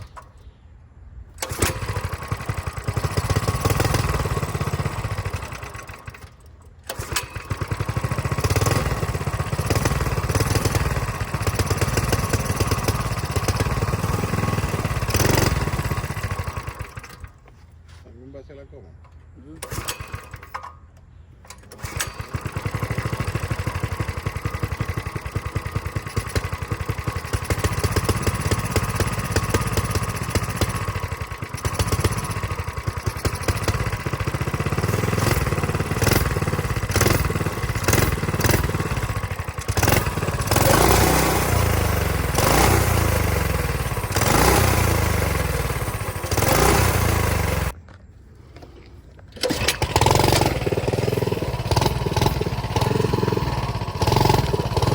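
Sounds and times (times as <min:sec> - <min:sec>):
mini bike engine revving: 0:01.4 - 0:17.3, 0:19.6 - 0:20.7, 0:21.5 - 0:47.8, 0:49.3 - 0:54.9.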